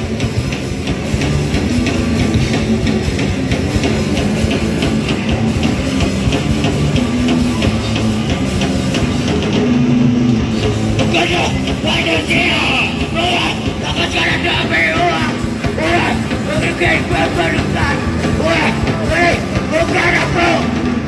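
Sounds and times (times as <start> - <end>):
distorted electric guitars: 0.0 - 21.0
fast drum-kit beat with cymbals: 0.0 - 21.0.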